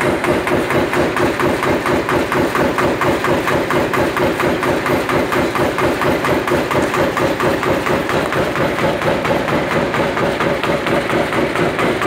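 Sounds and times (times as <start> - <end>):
machine drone with fast knocking: 0.0 - 12.0.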